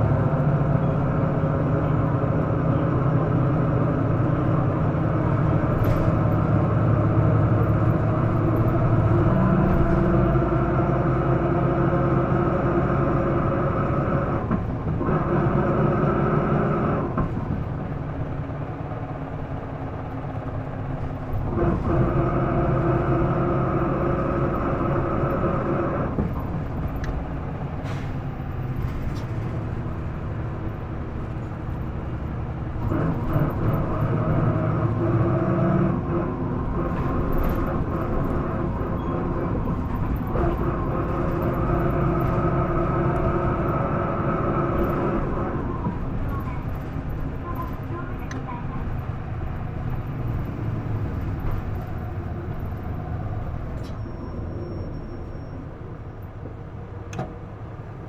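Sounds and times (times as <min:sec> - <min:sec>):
bus diesel engine whining: 0:00.0 - 0:58.0.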